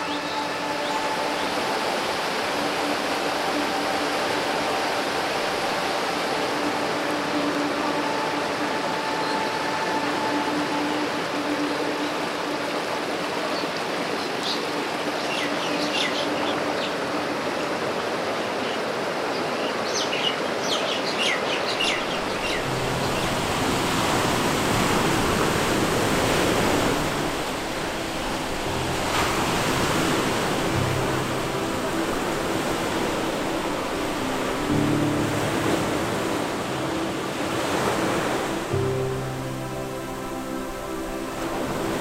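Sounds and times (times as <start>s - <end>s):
ocean waves breaking on beach: 0.0s - 42.0s
stream rushing over rocks: 0.0s - 42.0s.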